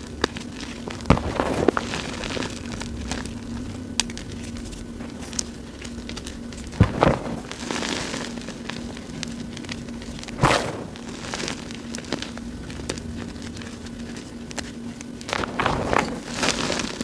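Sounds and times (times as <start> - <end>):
chalk crunching by hand: 0.3 - 17.0.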